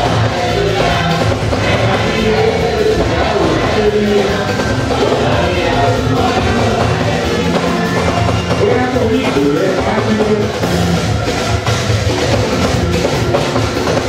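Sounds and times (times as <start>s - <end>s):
drums and percussion beat: 0.0s - 14.0s
pitched instruments playing: 0.0s - 14.0s.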